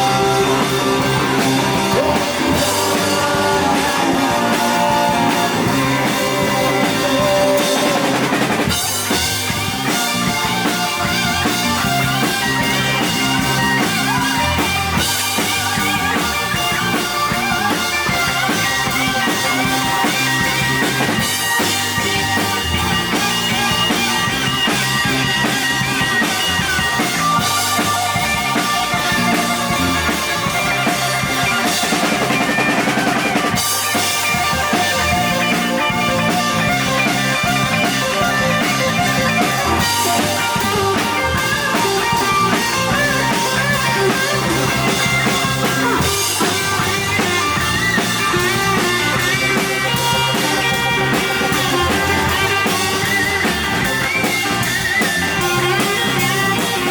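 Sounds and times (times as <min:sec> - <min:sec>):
drum kit: 0:00.0 - 0:56.9
live rock band playing: 0:00.0 - 0:56.9.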